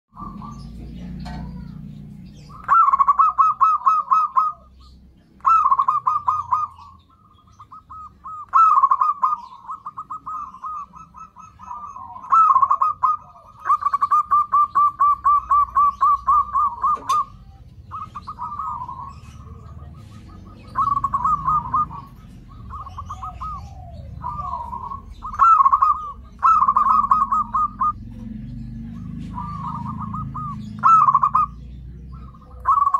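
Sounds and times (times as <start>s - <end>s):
doves cooing in staccato notes: 0.1s - 32.9s.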